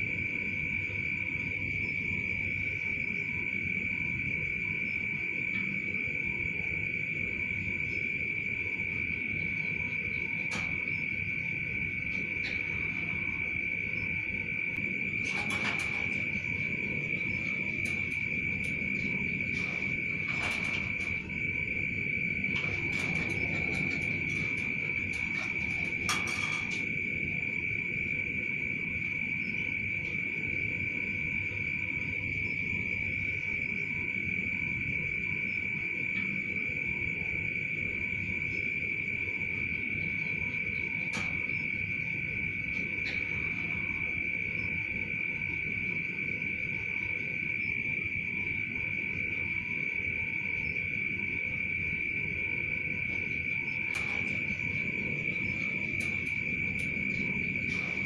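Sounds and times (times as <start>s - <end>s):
high-pitched insect trill: 0.0s - 58.0s
high-pitched whine: 0.0s - 58.0s.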